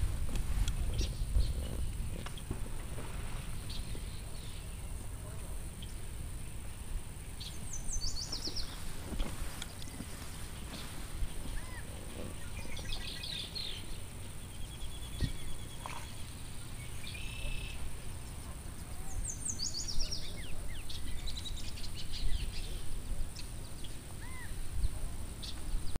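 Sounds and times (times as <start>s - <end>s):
small birds chirping and trilling: 0.0s - 25.9s
steady low rumble: 0.0s - 25.9s.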